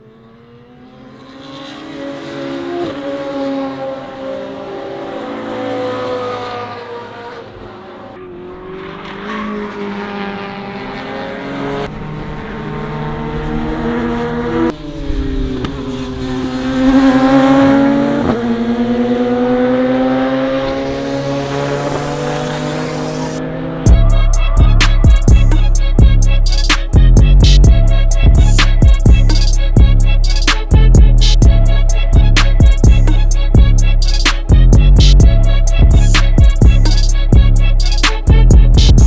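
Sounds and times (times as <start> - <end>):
car engine revving: 0.1 - 39.0.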